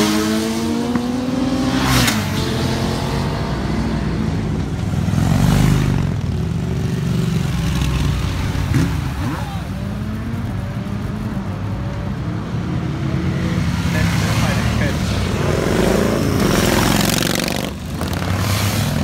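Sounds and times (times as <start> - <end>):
motorcycles revving past: 0.0 - 19.0.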